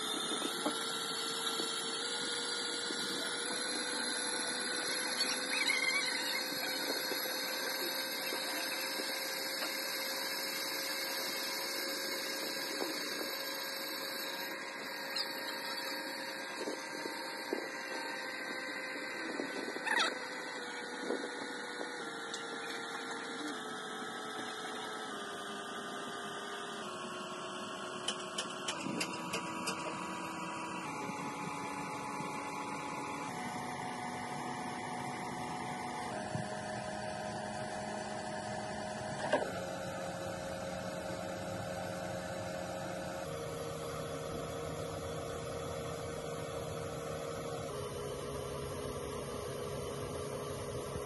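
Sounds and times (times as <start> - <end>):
brake lathe hum and whine: 0.0 - 51.0.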